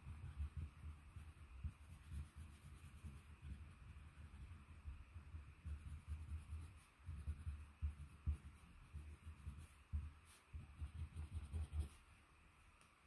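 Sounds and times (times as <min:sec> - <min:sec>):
pencil rubbing on paper: 0:00.0 - 0:12.1.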